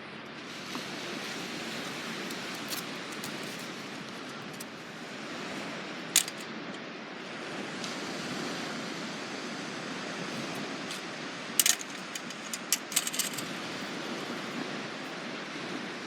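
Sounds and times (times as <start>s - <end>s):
surf washing on a beach: 0.0s - 11.6s, 13.4s - 16.0s.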